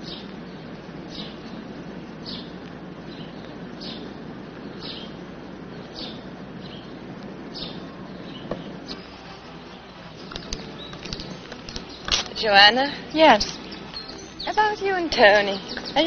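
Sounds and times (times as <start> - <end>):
bird chirping: 0.0 - 16.0
outdoor background hiss: 0.0 - 16.0.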